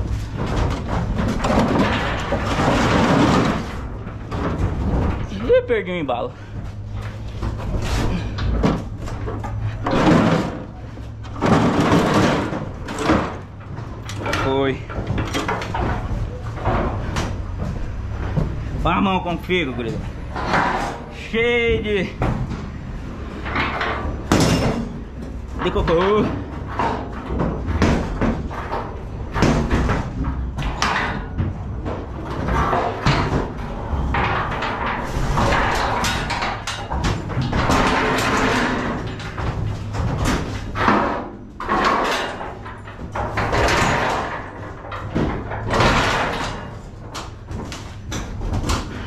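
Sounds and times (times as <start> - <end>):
heavy gate scraping drags: 0.0 - 29.3, 30.0 - 49.0
metal clanks and bangs: 0.0 - 49.0.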